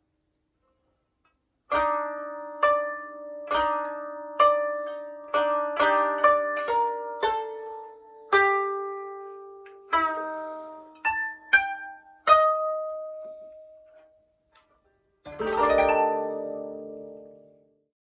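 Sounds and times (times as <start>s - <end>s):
rolled zither chord: 1.7s - 14.1s, 15.3s - 17.8s
plucked zither notes: 1.7s - 17.8s.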